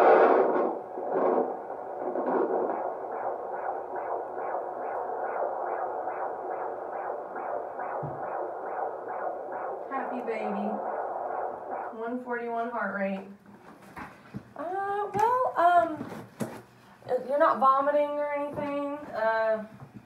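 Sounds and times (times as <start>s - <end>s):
fetal heartbeat through doppler speaker: 0.0s - 13.4s, 17.2s - 20.0s.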